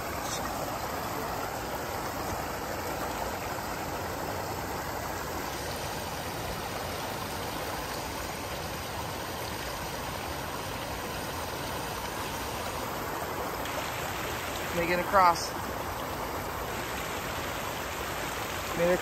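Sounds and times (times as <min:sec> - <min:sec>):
river water flowing over rocks: 0:00.0 - 0:19.0.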